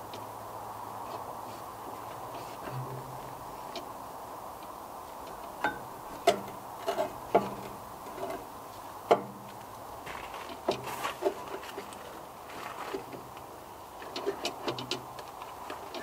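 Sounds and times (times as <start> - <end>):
light clicks and knocks of tools: 0.0 - 0.3, 1.0 - 16.0.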